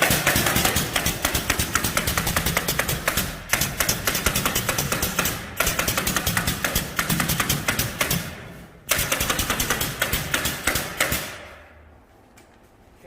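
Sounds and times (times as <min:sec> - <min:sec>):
power tool hammering: 0:00.0 - 0:11.6.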